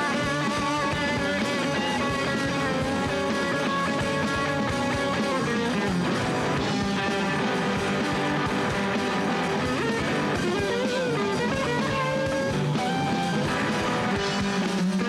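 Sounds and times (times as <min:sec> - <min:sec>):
distorted electric guitars: 0:00.0 - 0:15.0
steady drum beat: 0:00.0 - 0:15.0.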